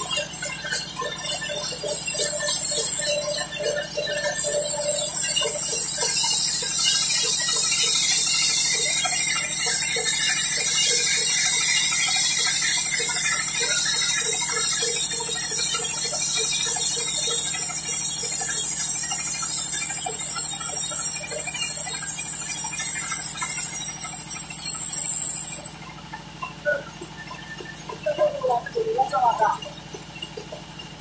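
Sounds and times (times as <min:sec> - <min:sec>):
machine humming: 0:00.0 - 0:31.0
regular ticking: 0:00.0 - 0:31.0.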